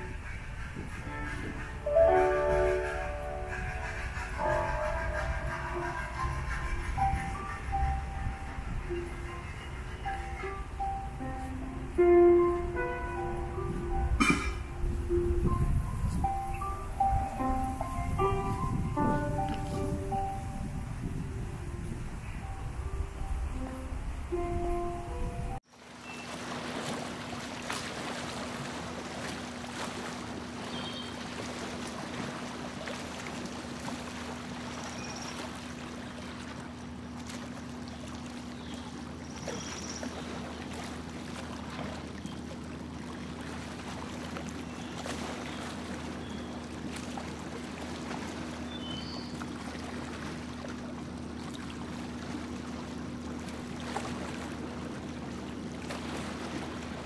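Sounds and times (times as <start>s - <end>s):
boat motor humming: 0.0s - 57.0s
water splashing along hull: 0.0s - 57.0s.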